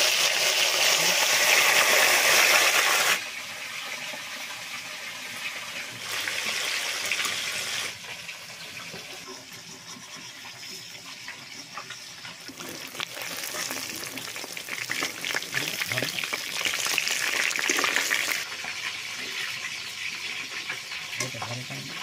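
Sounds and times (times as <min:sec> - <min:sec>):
fish frying in oil: 0:00.0 - 0:22.0.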